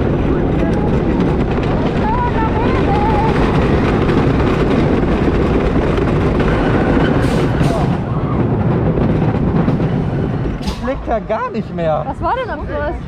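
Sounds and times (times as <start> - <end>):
roller coaster train rumbling: 0.0 - 13.0.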